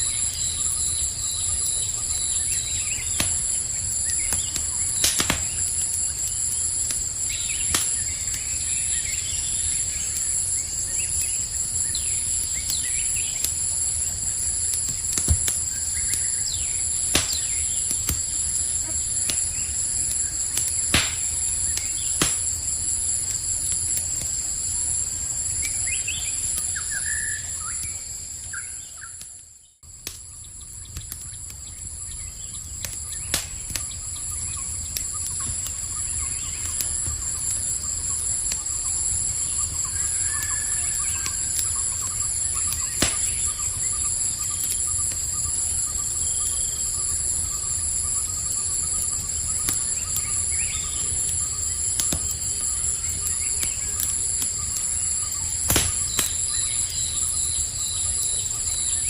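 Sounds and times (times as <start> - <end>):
campfire crackling and popping: 0.0 - 59.0
night insects chorus: 0.0 - 59.0.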